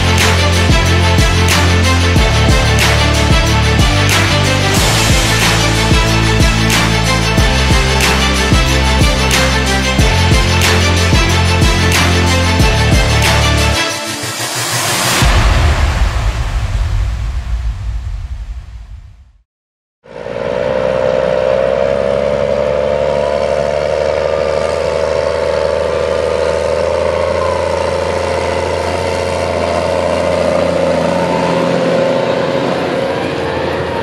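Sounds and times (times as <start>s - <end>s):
tractor diesel engine running: 0.0s - 15.4s, 20.1s - 34.0s.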